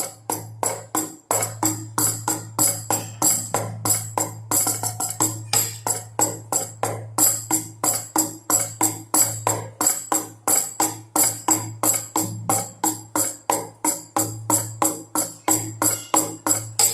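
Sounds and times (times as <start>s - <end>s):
drums beating fast rhythm: 0.0s - 16.9s.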